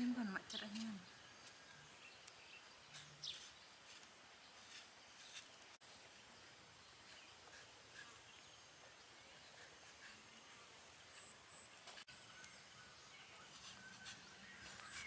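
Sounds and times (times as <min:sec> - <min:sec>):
faint chirps and ticks: 0:00.0 - 0:15.0.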